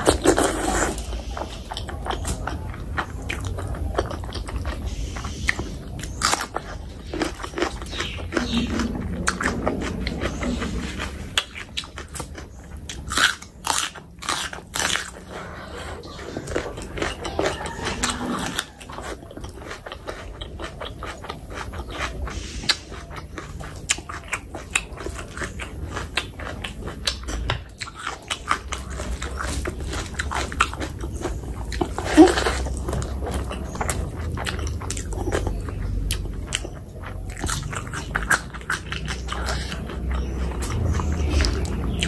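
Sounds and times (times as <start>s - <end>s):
crunching raw onion: 0.0s - 42.0s
wet chewing and lip smacks: 0.0s - 42.0s.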